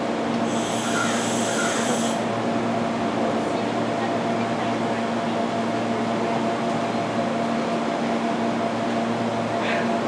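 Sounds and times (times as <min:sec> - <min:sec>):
train ventilation hum: 0:00.0 - 0:10.0.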